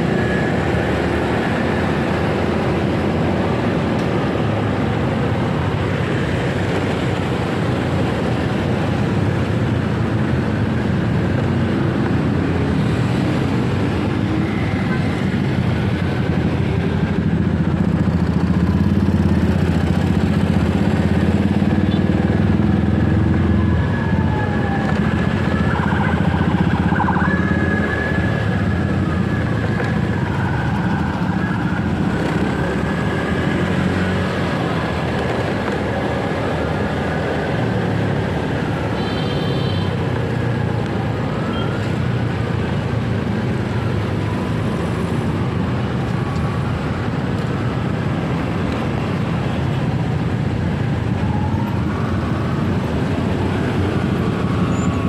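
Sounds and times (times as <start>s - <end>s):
road and wind noise: 0.0s - 55.0s
traffic tones: 0.0s - 55.0s.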